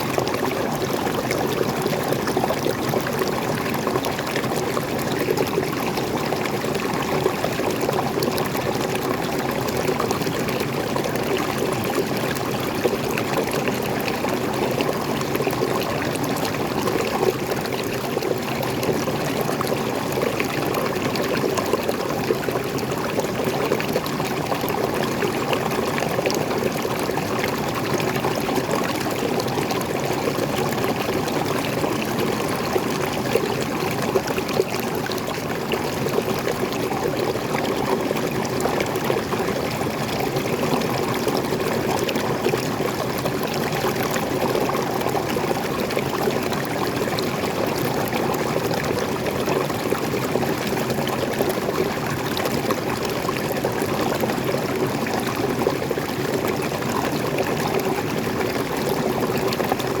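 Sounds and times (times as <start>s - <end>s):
water flowing over small waterfall: 0.0s - 60.0s.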